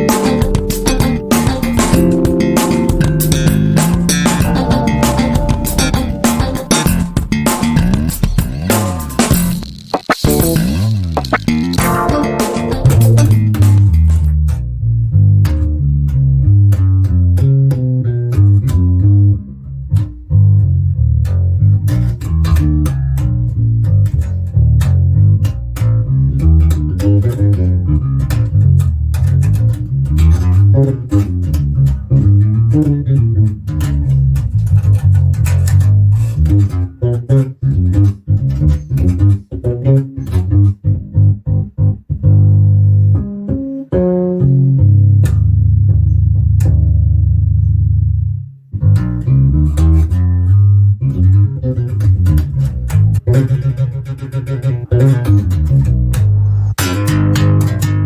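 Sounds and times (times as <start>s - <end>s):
electric bass groove: 0.0s - 58.0s.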